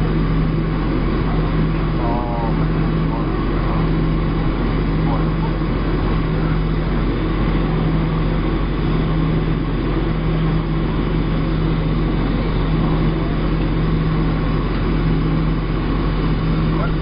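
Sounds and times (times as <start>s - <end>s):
airflow and jet engine roar: 0.0s - 17.0s
steady low hum: 0.0s - 17.0s.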